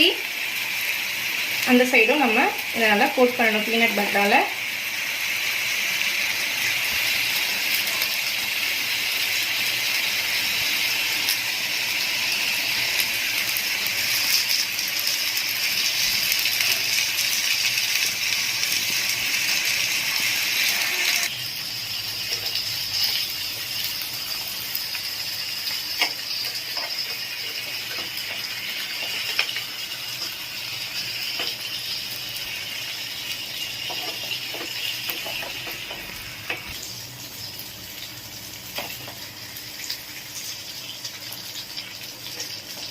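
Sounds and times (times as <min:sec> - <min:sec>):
chicken sizzling in a frying pan: 0:00.0 - 0:42.9.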